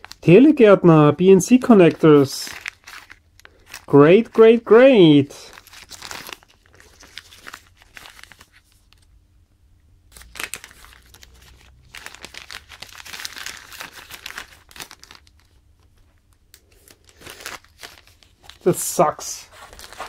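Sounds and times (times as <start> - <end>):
plastic bag crinkling and tearing: 0.0 - 0.3, 1.4 - 9.1, 10.1 - 20.0.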